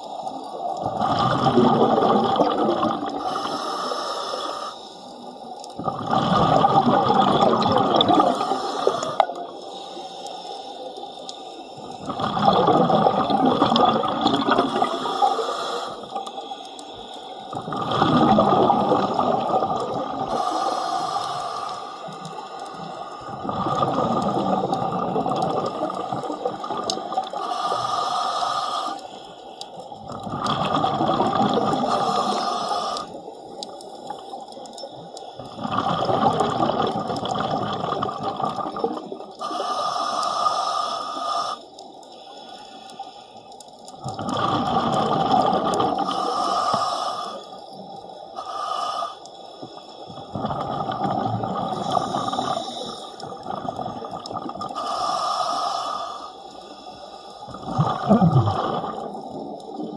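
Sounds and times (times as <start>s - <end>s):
muffled underwater bubbles: 0.0s - 59.9s.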